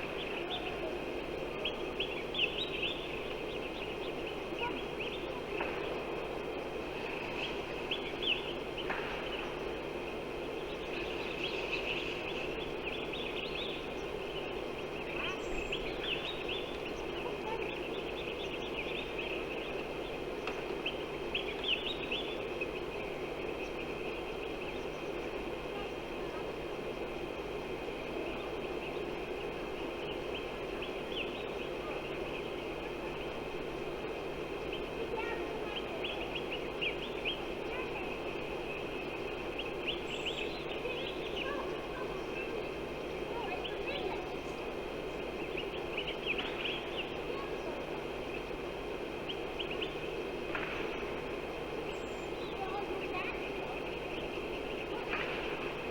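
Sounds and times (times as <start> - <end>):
small birds chirping: 0.0 - 55.9
wind: 0.0 - 55.9.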